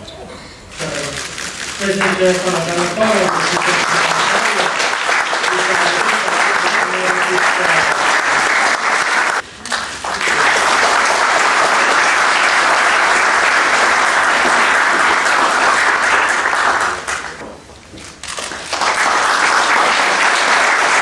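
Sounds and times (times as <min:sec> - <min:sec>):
audience applauding: 0:01.2 - 0:17.4, 0:18.2 - 0:21.0.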